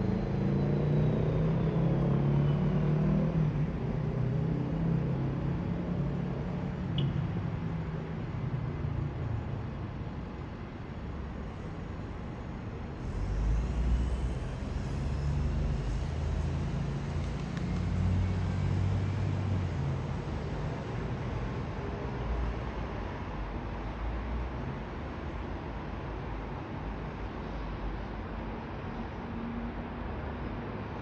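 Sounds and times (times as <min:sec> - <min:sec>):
passing vehicle engine and tyres: 0:00.0 - 0:08.8, 0:12.3 - 0:31.0.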